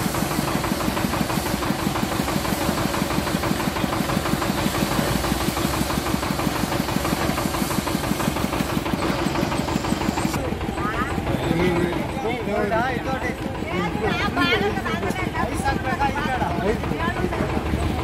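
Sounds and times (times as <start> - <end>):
juice crusher motor knocking: 0.0 - 18.0.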